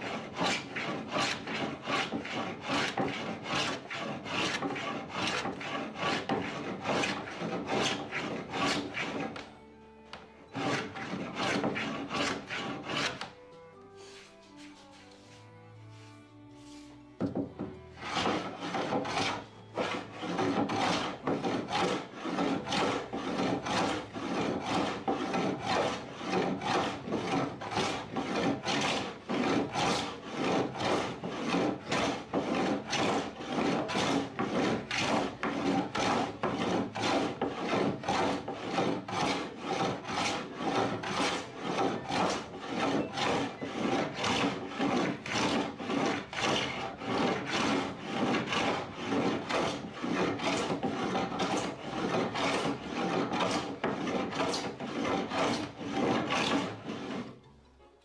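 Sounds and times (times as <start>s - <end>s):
sanding wood by hand: 0.0s - 9.4s, 10.5s - 13.4s, 14.0s - 57.3s.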